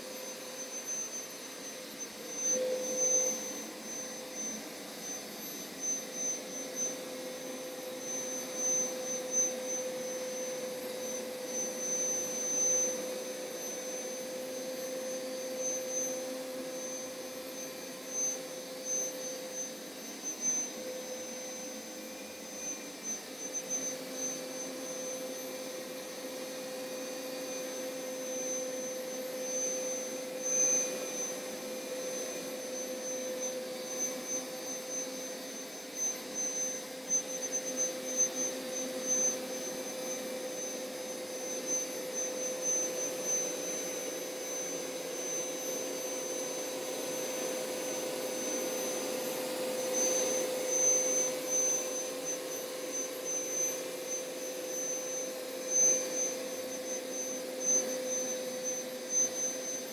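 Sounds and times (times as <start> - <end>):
carpet cleaner motor whine: 0.0 - 59.9.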